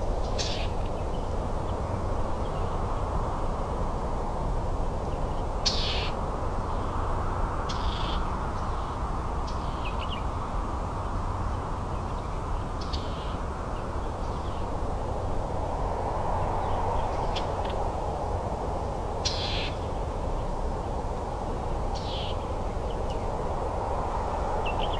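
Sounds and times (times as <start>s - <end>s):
low background rush: 0.0s - 24.9s.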